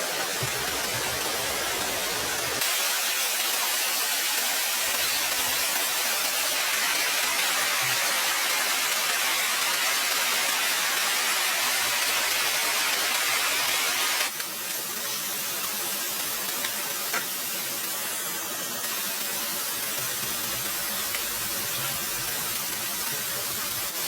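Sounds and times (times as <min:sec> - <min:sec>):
steady hissing noise: 0:00.0 - 0:24.0.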